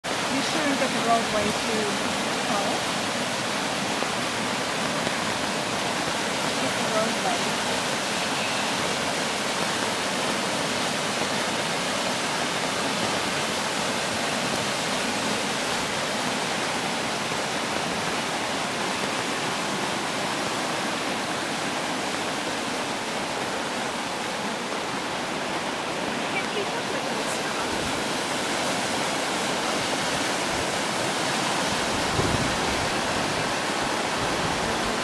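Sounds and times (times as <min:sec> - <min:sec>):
water rushing and churning: 0:00.0 - 0:35.0.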